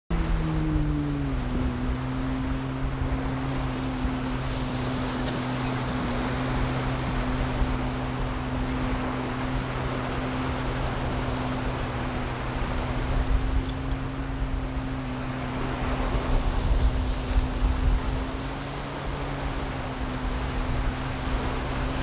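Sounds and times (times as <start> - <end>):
engine hum: 0.1 - 22.0
surf: 0.1 - 22.0
wind: 0.1 - 22.0.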